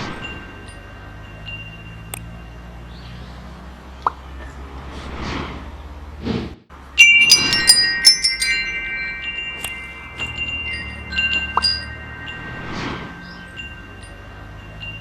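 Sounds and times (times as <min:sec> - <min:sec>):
metal wind chimes ringing: 0:00.0 - 0:04.4, 0:06.8 - 0:15.0.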